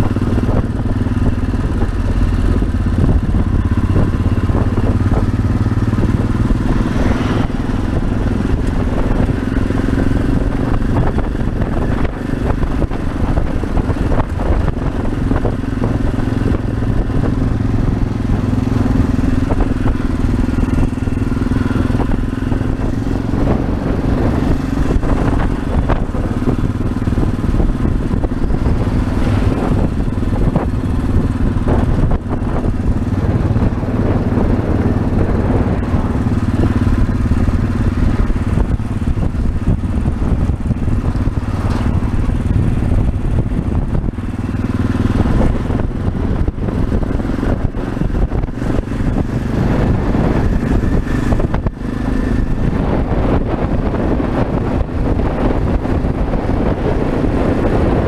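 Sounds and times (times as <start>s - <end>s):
motorcycle engine running: 0.0s - 58.0s
road rumble: 0.0s - 58.0s
wind: 0.0s - 58.0s.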